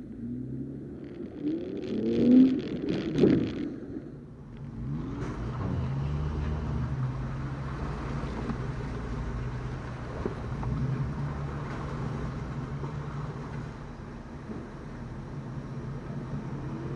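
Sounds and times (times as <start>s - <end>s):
engine running at low revs: 0.0s - 16.9s.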